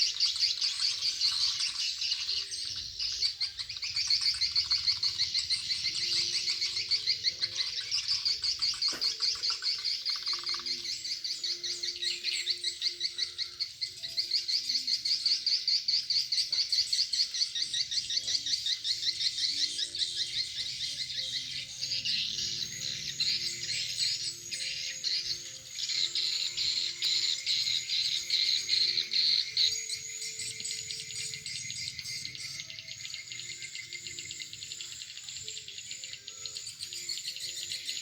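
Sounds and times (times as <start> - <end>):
swiftlets twittering chirps: 0.0 - 15.4, 17.2 - 38.0.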